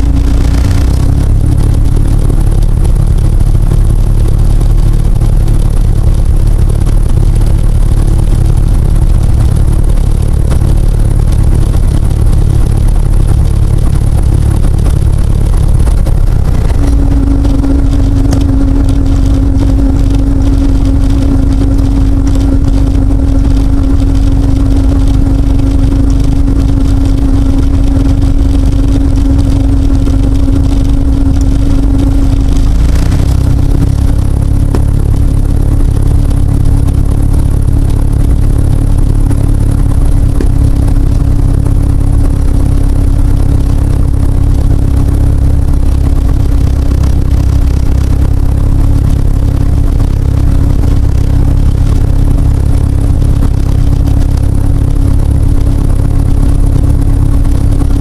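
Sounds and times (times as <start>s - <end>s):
propeller aircraft engine running: 0.0s - 58.0s.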